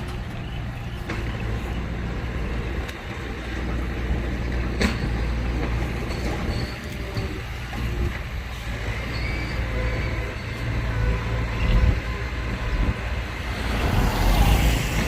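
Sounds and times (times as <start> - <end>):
diesel machinery droning: 0.0 - 15.0.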